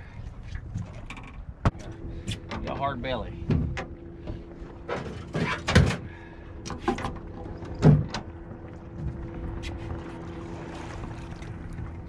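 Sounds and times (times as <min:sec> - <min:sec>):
knocks and thumps in a boat: 0:00.0 - 0:12.0
steady low hum: 0:00.0 - 0:12.0.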